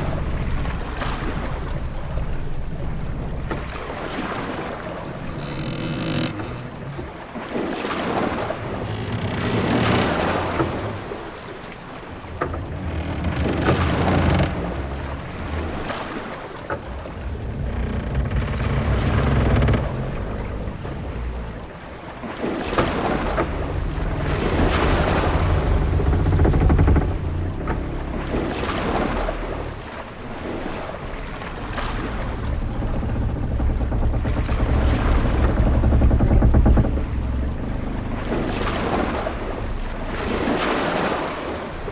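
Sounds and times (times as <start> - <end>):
low rumble: 0.0 - 7.2, 8.5 - 40.9
timber creaks and knocks: 0.0 - 41.9
waves washing against hull: 0.0 - 41.9
wind: 0.0 - 41.9.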